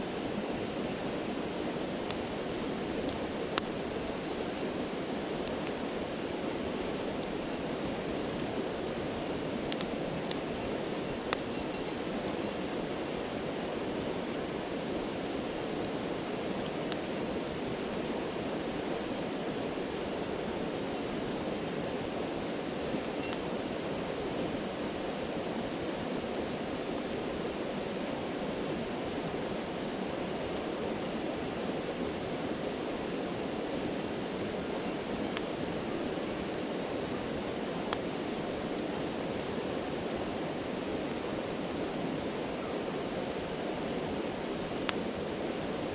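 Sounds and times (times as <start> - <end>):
campfire crackles: 0.0 - 45.9
stream rushing: 0.0 - 45.9.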